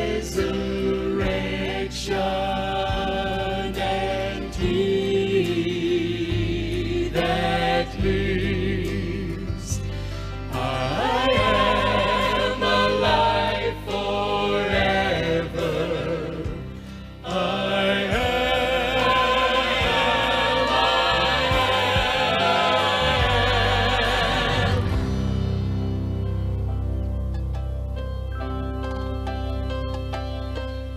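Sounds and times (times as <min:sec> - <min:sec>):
gospel choir singing: 0:00.0 - 0:26.0
instrumental backing music: 0:00.0 - 0:30.9.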